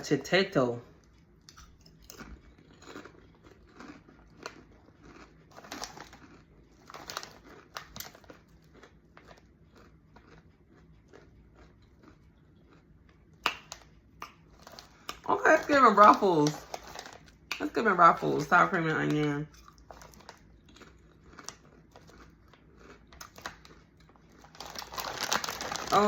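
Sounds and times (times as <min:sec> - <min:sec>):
person crunching potato chips: 0:01.0 - 0:26.0.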